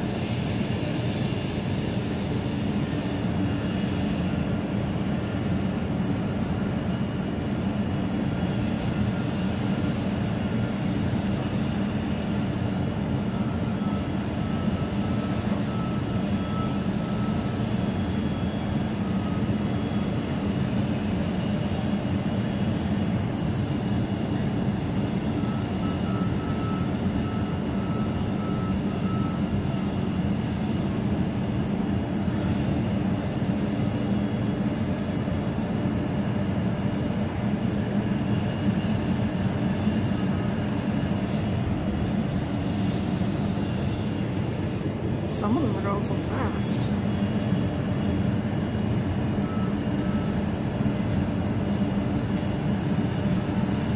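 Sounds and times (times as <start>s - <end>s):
low industrial drone: 0.0s - 53.9s.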